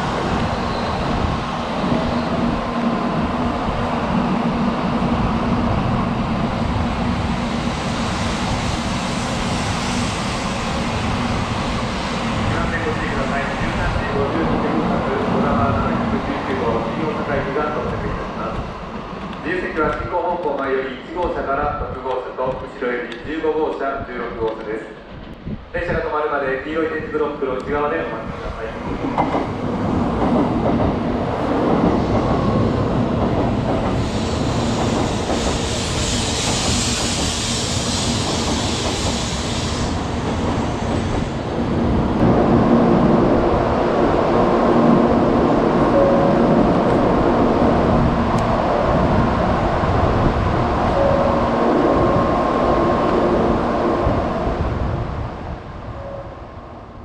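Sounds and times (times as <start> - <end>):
train rolling and braking: 0.0 - 25.8, 27.6 - 57.0.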